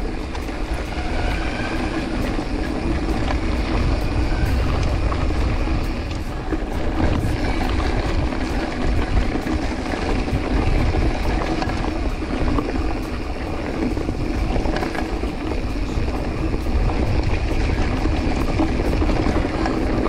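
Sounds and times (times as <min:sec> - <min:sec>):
bike rattling on dirt trail: 0:00.0 - 0:20.0
wind buffeting microphone: 0:00.0 - 0:20.0.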